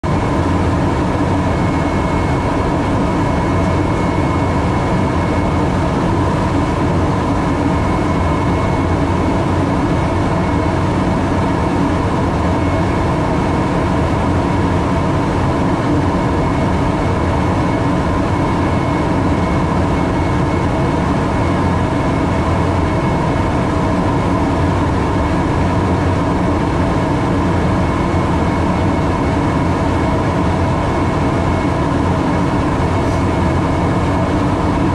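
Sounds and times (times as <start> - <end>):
thin high whine: 0.1 - 34.9.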